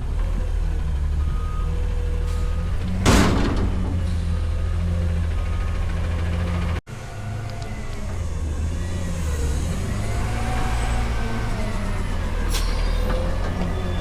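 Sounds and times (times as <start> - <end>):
garbage truck engine running: 0.0 - 14.0.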